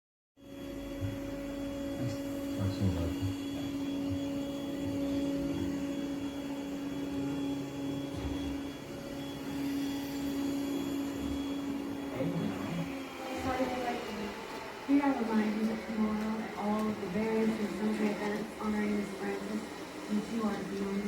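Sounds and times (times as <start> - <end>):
low electrical hum: 0.5 - 21.0.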